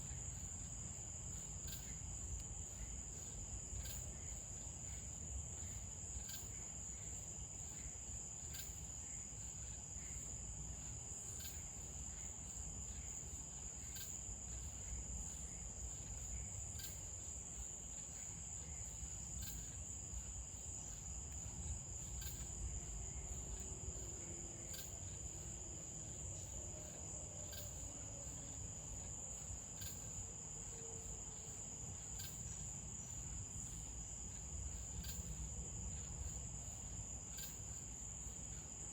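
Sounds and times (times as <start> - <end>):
crickets trilling: 0.0 - 38.9
insect sharp chirps: 0.0 - 38.9.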